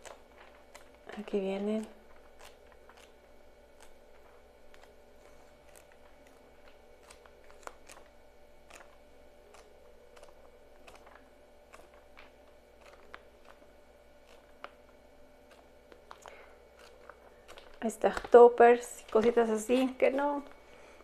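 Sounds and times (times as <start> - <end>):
paper pages turning: 0.0 - 20.6
low room hum: 0.0 - 21.0.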